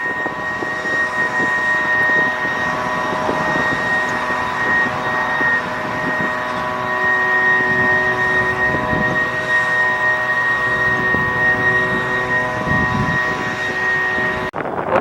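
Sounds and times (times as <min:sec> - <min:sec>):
machinery drone with shrill whine: 0:00.0 - 0:15.0.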